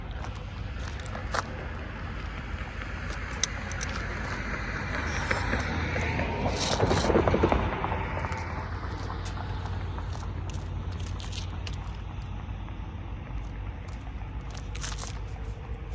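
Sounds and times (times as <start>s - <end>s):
vehicle low rumble: 0.0s - 15.9s
rattling vehicle passing: 0.6s - 15.9s
wind buffeting microphone: 1.8s - 15.9s.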